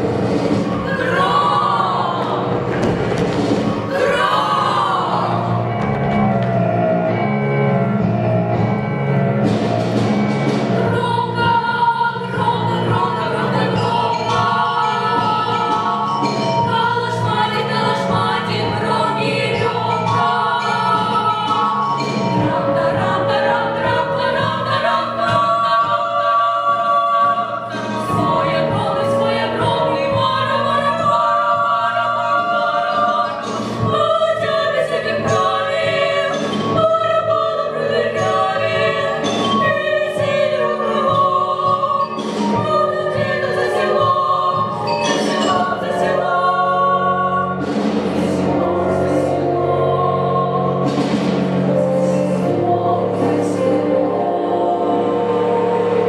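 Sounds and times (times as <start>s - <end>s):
children's choir singing: 0.0s - 6.9s, 9.6s - 56.0s.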